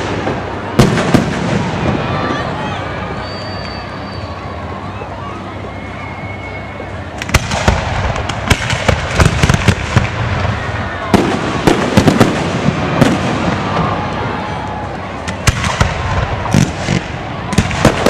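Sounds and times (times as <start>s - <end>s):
fireworks bangs and crackles: 0.0s - 5.2s, 6.6s - 18.0s.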